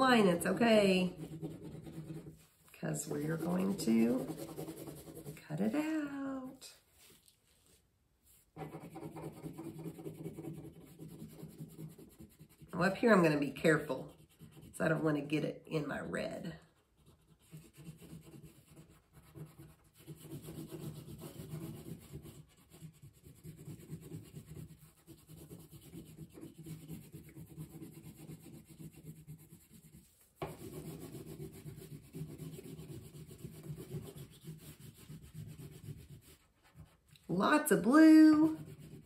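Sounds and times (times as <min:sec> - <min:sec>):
crayon scribbling on paper: 0:00.0 - 0:07.2, 0:08.5 - 0:39.0.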